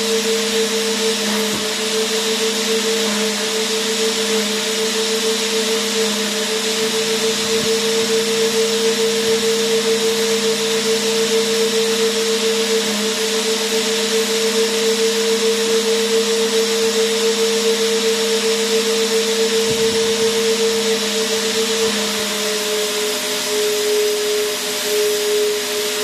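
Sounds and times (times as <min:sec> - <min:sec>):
vacuum cleaner motor running: 0:00.0 - 0:26.0.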